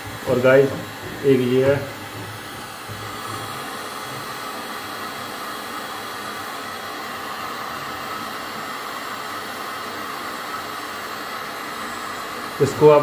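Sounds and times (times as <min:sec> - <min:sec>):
heat gun fan blowing: 0:00.0 - 0:13.0.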